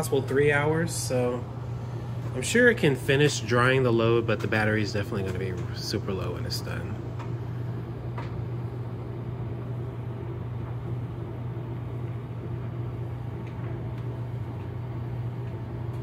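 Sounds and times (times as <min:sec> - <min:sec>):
cooling fan running: 0:00.0 - 0:16.0
electric dryer humming: 0:00.0 - 0:16.0.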